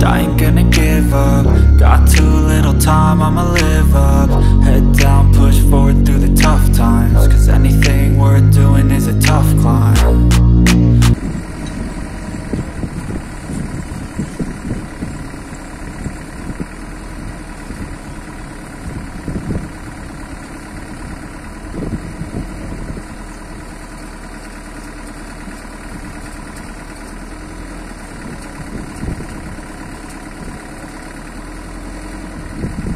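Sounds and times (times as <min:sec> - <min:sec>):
truck engine idling: 0:00.0 - 0:32.9.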